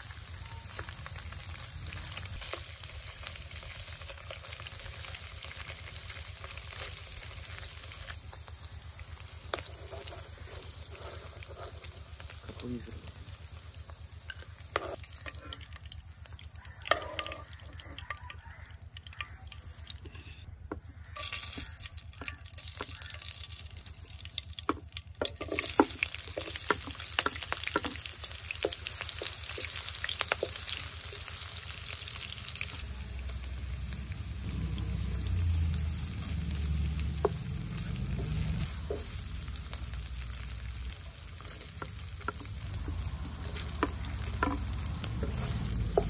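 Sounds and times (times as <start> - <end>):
oil sizzling: 0.0 - 20.4, 21.0 - 46.0
hot oil popping: 0.0 - 46.0.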